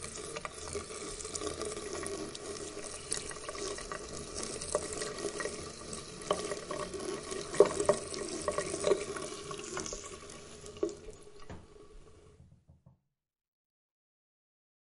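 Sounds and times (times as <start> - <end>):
water running and splashing: 0.0 - 12.2.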